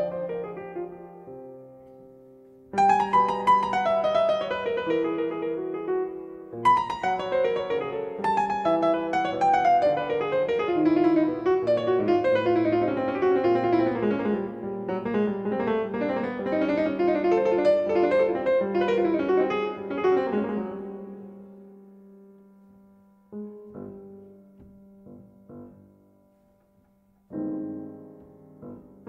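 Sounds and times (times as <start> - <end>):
solo jazz piano: 0.0 - 29.0.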